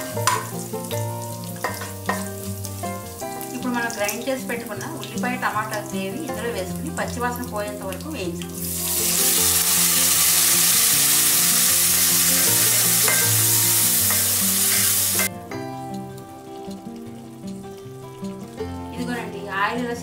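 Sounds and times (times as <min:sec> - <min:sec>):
paste sizzling in hot oil: 0:00.0 - 0:19.3
soft background music: 0:00.0 - 0:20.0.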